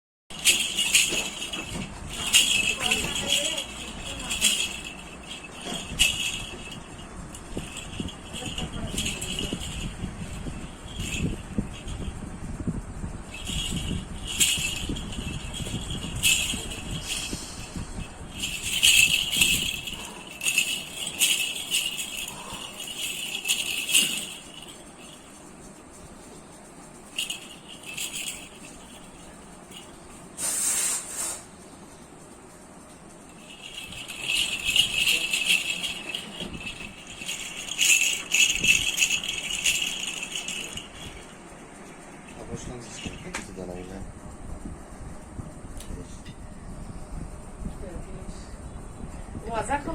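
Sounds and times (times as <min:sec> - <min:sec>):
toy rattle jingling: 0:00.3 - 0:30.4, 0:31.6 - 0:45.1.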